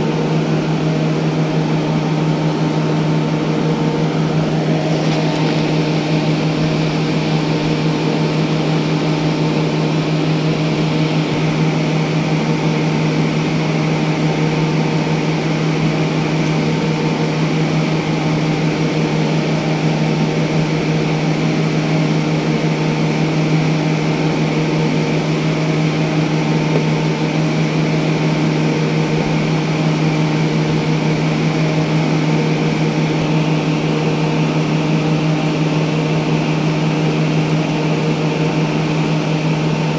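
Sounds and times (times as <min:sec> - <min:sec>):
mechanical drone: 0:00.0 - 0:39.9.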